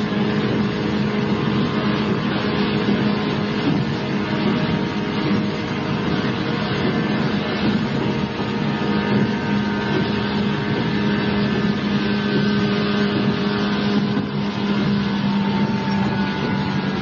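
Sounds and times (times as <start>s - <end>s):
traction motor hum: 0.0s - 17.0s.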